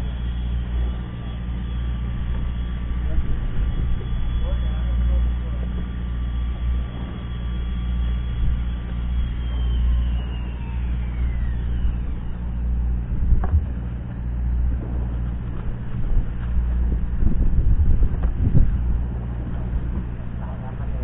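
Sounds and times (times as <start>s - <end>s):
boat engine idling: 0.0s - 21.0s
faint high whine: 0.0s - 21.0s.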